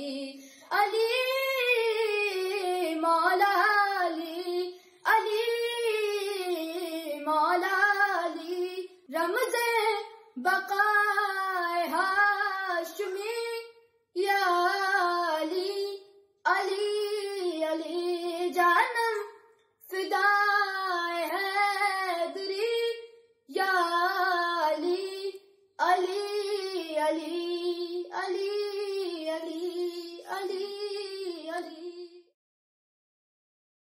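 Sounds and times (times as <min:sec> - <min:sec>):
boy singing unaccompanied: 0:00.0 - 0:32.3.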